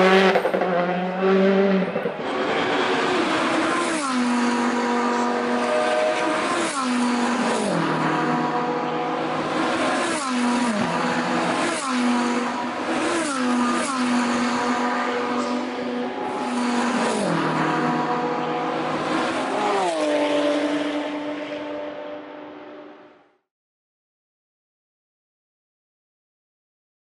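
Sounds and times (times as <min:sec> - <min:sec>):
rally car engine: 0:00.0 - 0:23.5.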